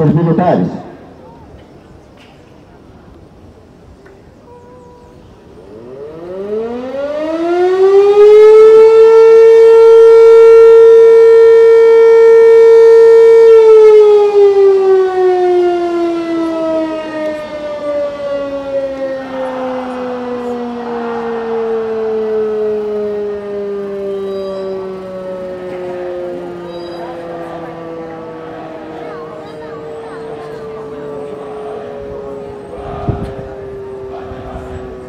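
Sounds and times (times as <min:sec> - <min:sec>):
motor-driven siren wailing: 0:04.5 - 0:35.0.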